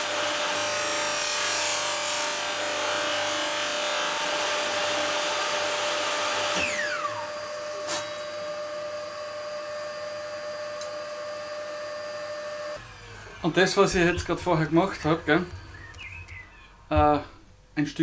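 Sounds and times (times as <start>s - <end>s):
table saw cutting wood: 0.0s - 15.5s.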